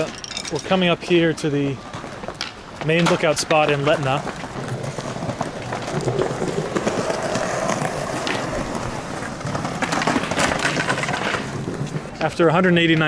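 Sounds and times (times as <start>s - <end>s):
skateboard wheels rolling on stone: 0.0s - 13.0s.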